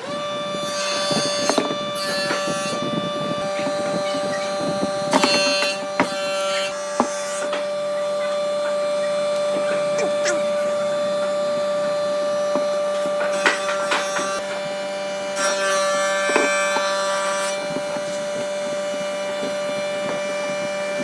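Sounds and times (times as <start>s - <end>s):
electric motor humming: 0.0s - 21.0s
scraping bursts: 0.0s - 21.0s.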